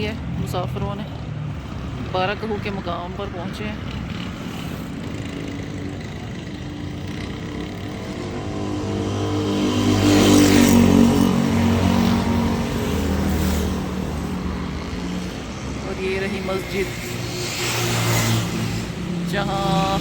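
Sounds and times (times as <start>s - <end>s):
traffic noise: 0.0s - 20.0s
vehicle engine passing by: 3.6s - 20.0s.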